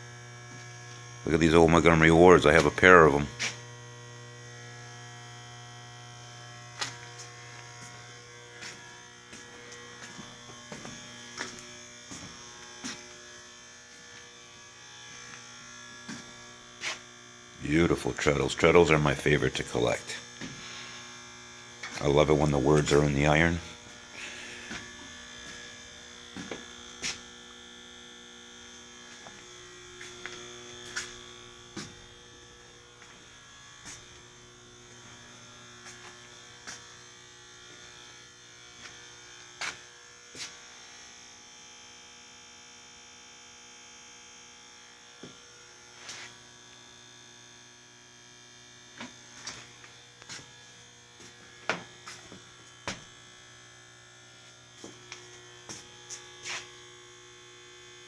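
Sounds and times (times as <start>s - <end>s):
electrical hum and buzz: 0.0s - 58.0s.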